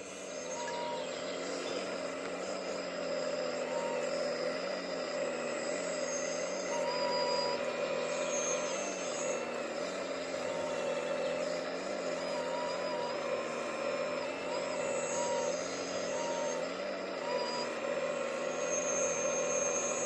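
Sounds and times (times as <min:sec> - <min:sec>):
heavy machinery engine running: 0:00.0 - 0:20.0
thin high whines: 0:00.0 - 0:20.0.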